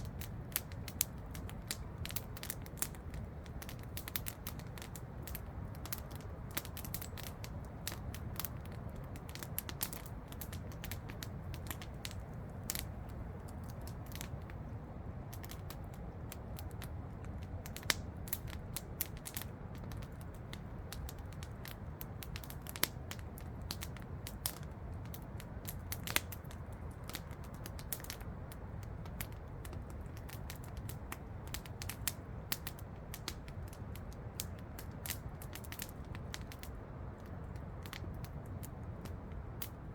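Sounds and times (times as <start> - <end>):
campfire crackling and popping: 0.0 - 39.9
low steady rumble: 0.0 - 39.9.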